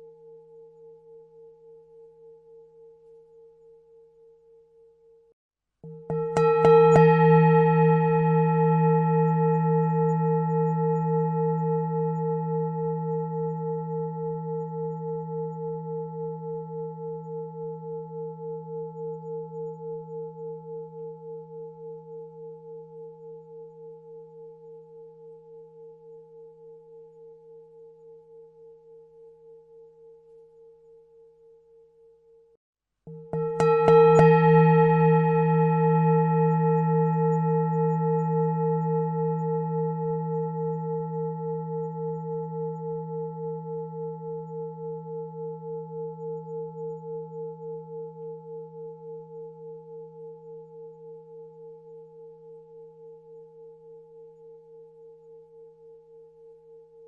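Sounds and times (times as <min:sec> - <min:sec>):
singing bowl ringing: 0:00.0 - 0:32.5, 0:33.1 - 0:57.0.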